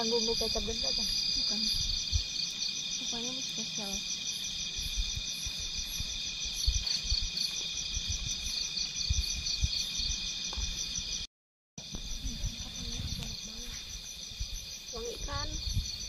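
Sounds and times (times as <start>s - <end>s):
crickets and insects trilling: 0.0s - 16.0s.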